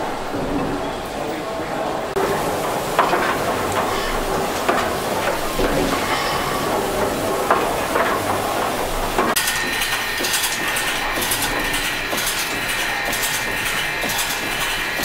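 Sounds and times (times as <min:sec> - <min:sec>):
mechanical clatter: 0:00.0 - 0:15.0
pulsing steam hiss: 0:00.0 - 0:15.0.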